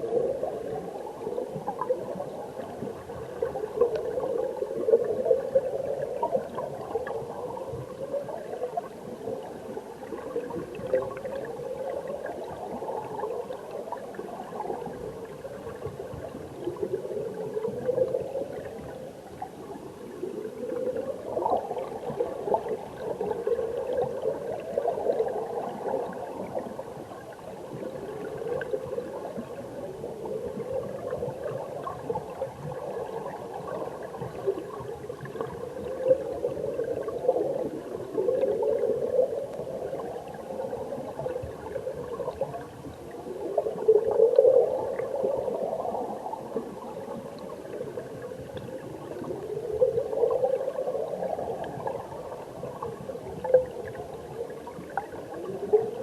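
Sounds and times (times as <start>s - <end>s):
muffled underwater rush of water: 0.0s - 56.0s.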